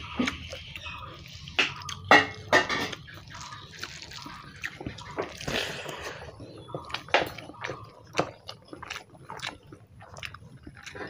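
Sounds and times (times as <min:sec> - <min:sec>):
wet squelching of hand mixing food: 0:00.0 - 0:11.0.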